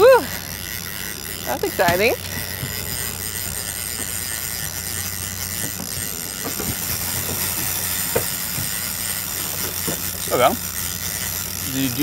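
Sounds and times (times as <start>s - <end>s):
fishing reel clicking: 0.0s - 12.0s
outboard motor humming: 0.0s - 12.0s.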